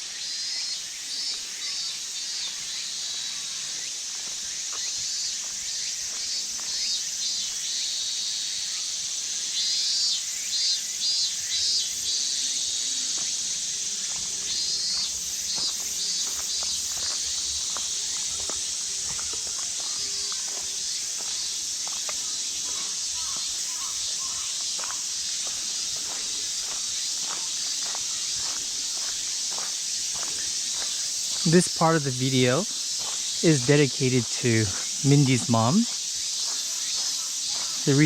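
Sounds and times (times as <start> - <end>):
insect chirping calls: 0.0 - 38.0
insects chorus: 0.0 - 38.0
footsteps on a path: 1.3 - 7.7, 12.6 - 38.0.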